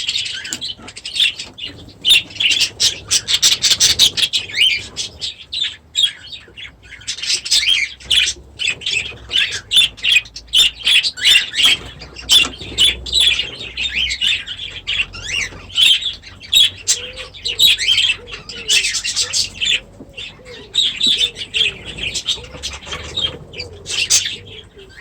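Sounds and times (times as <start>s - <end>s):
birds chirping and squawking: 0.0s - 25.0s.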